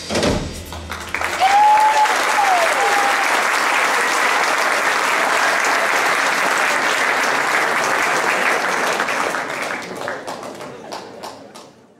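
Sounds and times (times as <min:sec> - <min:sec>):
audience applauding: 0:00.8 - 0:11.9.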